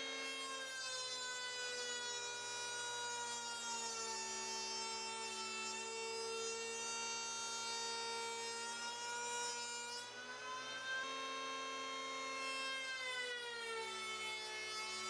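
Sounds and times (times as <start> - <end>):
electric planer whining: 0.0 - 15.0.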